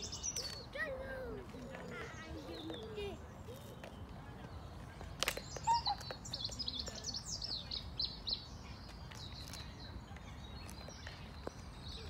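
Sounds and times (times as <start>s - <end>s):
small birds twittering: 0.0s - 12.0s.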